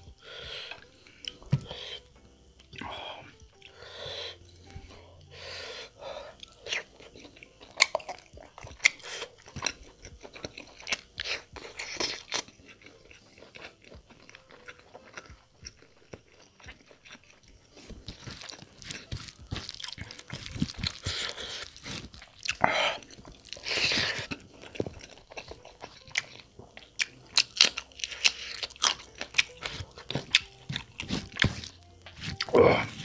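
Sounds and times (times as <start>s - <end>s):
close chewing: 0.0s - 33.0s
fingers squishing rice: 0.0s - 33.0s.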